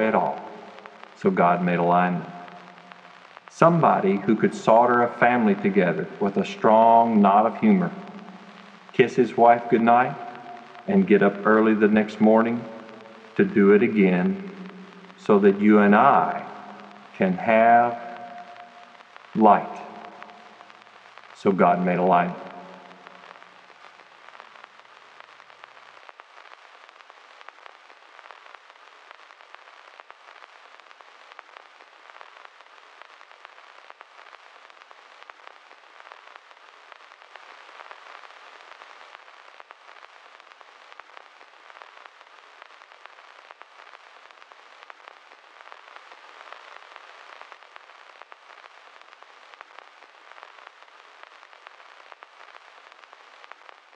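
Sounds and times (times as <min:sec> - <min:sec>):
crackling hiss with clicks: 0:00.0 - 0:53.9.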